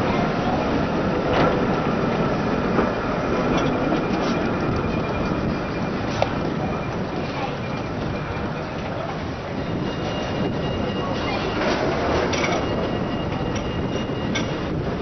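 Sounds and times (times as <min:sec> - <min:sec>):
tram wheels rumbling on rails: 0:00.0 - 0:15.0
faint high wheel squeal: 0:01.5 - 0:14.9.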